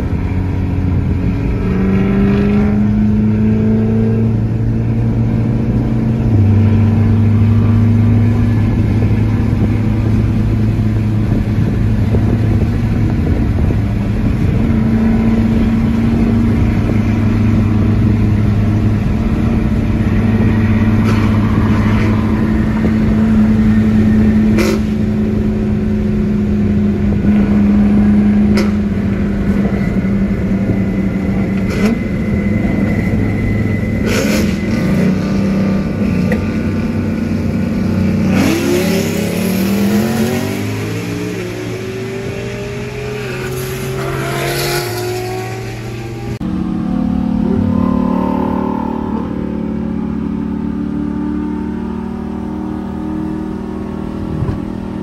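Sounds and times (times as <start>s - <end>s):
car engine running at low revs: 0.0s - 55.0s.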